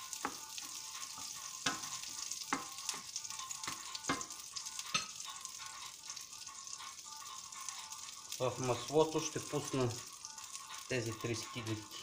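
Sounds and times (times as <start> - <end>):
butter sizzling in frying pan: 0.0 - 12.0.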